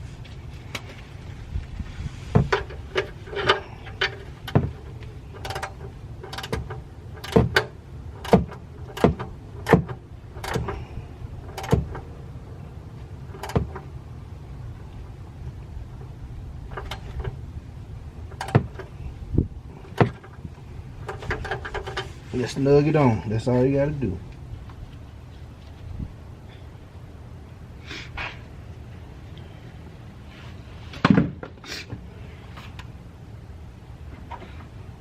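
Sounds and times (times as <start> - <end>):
steady low rumble: 0.0 - 30.9.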